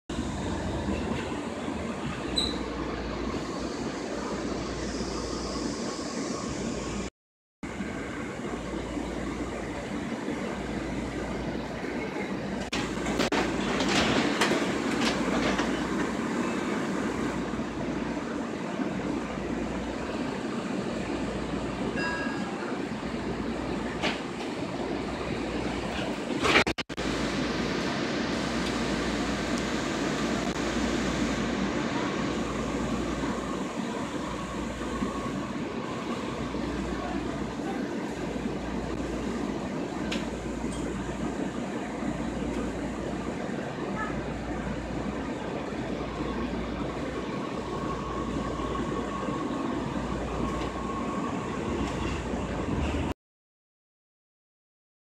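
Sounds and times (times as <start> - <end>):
rail car wheels and motors rumbling: 0.1 - 53.1.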